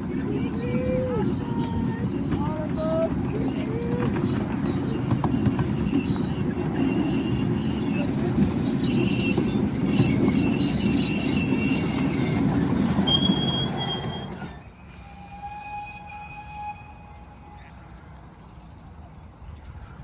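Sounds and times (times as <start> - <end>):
high-pitched wheel squeal: 0.0 - 17.8
miniature train rumbling on track: 0.0 - 20.0.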